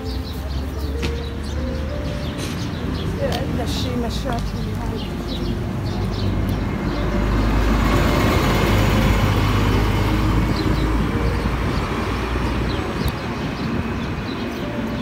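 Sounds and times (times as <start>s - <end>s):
bus engine pulling away: 0.0s - 15.0s.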